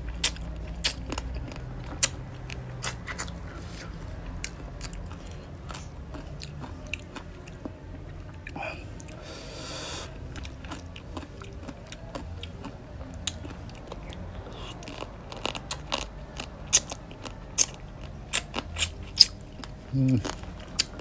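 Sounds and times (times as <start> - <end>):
chewing and crunching crab shell: 0.0 - 9.3, 10.1 - 21.0.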